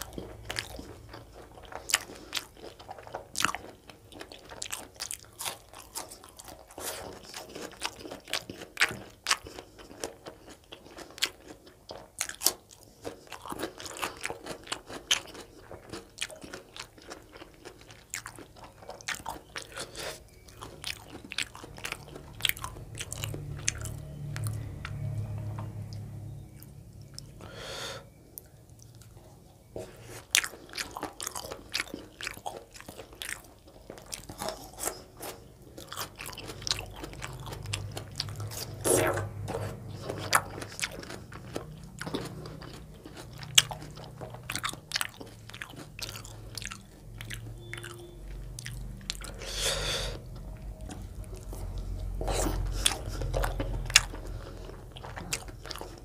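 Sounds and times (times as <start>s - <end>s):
person chewing and biting food: 0.0s - 29.2s, 29.9s - 56.0s.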